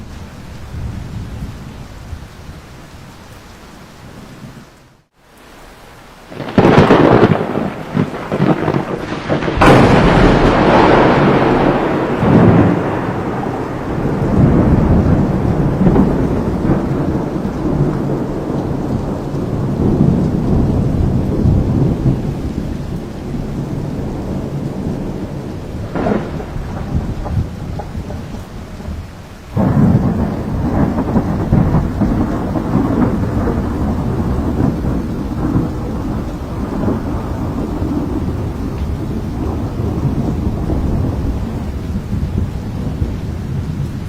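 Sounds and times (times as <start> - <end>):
steady rain: 0.0 - 44.0
thunder crack and rumble: 6.3 - 44.0.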